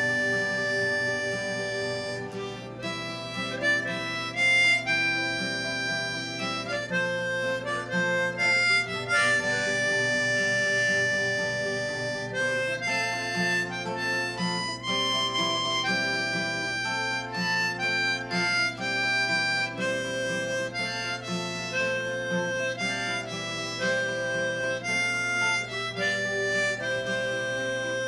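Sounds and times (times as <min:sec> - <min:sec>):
acoustic guitar: 0:00.0 - 0:28.0
harmonica playing held notes: 0:00.0 - 0:28.0.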